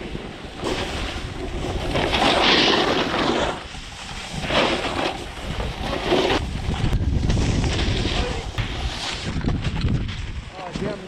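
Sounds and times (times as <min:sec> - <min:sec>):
low wind rumble on microphone: 0:00.0 - 0:11.0
snowboard scraping over snow: 0:00.0 - 0:11.0.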